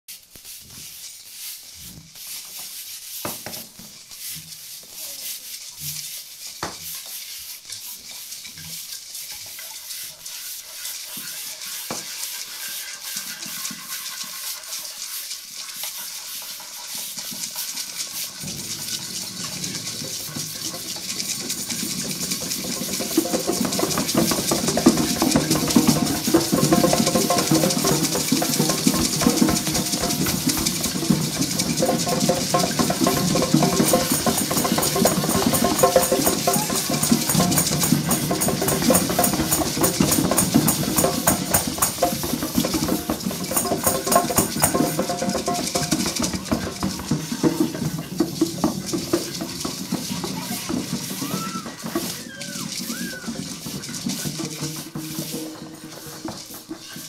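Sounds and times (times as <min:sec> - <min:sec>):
rain-like hiss: 0:00.0 - 0:57.0.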